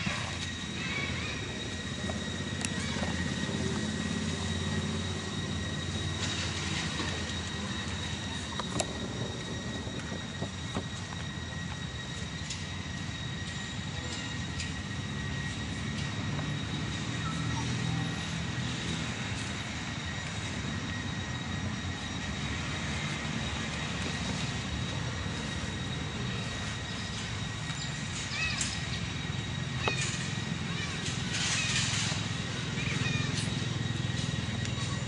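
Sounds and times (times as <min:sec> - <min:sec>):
distant engine rumble: 0:00.0 - 0:35.0
faint high whine: 0:00.0 - 0:35.0.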